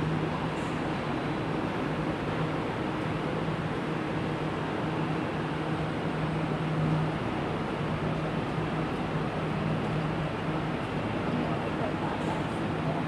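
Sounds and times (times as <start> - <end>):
train carriage hum and rumble: 0.0 - 13.0.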